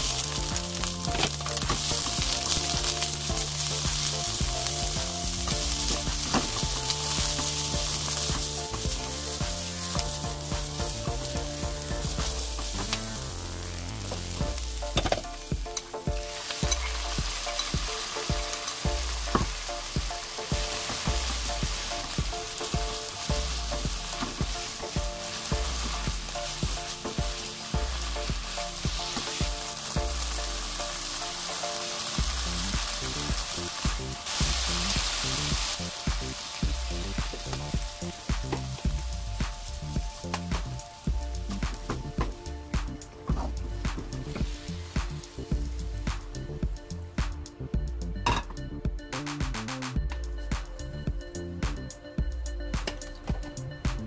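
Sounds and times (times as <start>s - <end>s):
food sizzling in oil: 0.0s - 46.9s.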